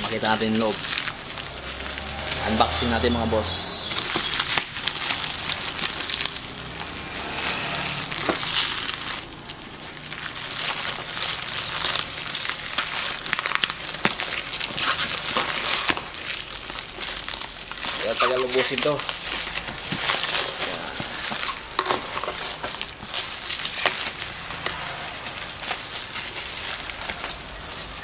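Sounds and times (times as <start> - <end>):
plastic wrap crinkling: 0.0 - 28.0.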